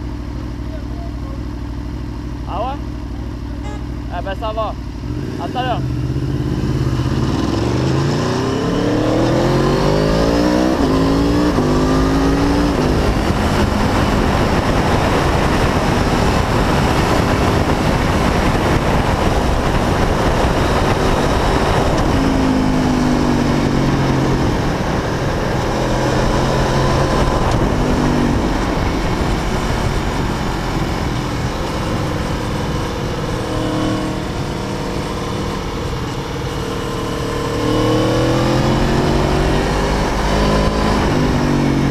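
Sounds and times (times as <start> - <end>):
motorcycle engine accelerating: 0.0 - 41.9
wind rush: 6.2 - 41.9.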